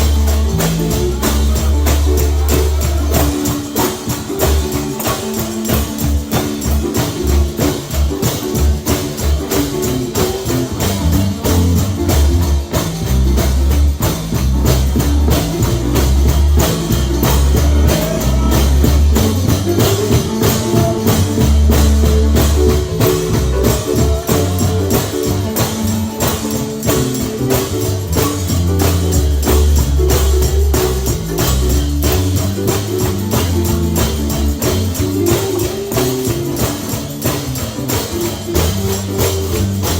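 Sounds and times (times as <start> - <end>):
live gospel music: 0.0 - 39.9
tambourine beat: 0.0 - 39.9.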